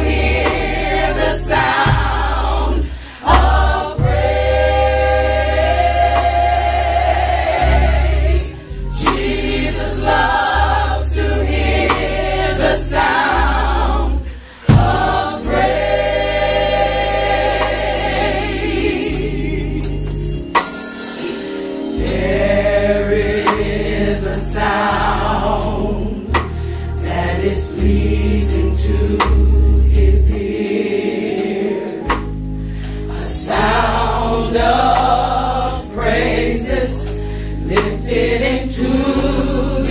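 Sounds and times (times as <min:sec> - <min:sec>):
band accompaniment: 0:00.0 - 0:39.9
gospel choir singing: 0:00.0 - 0:39.9.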